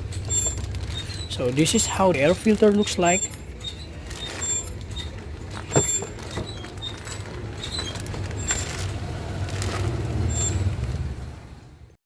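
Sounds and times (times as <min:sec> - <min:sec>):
plastic wrapping crackling: 0:00.0 - 0:11.1
vehicle engine rumbling: 0:00.0 - 0:11.9.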